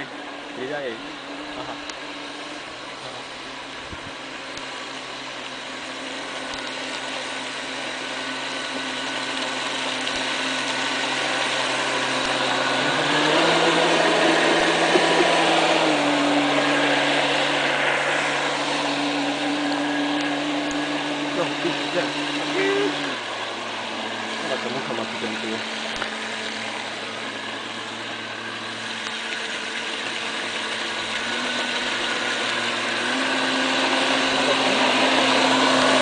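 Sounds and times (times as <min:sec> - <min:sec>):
hull and spray hissing: 0:00.0 - 0:36.0
model boat motor hum: 0:00.0 - 0:36.0.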